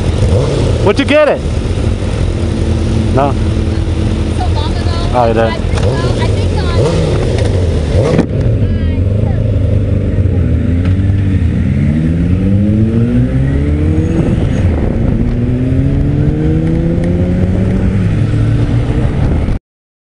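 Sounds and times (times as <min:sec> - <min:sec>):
motorcycle engines accelerating: 0:00.0 - 0:19.6.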